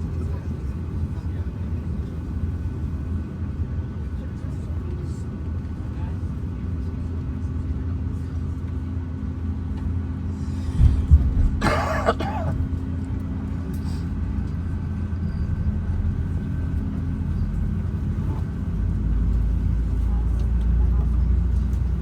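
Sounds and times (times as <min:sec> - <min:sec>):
aircraft cabin low rumble: 0:00.0 - 0:22.0.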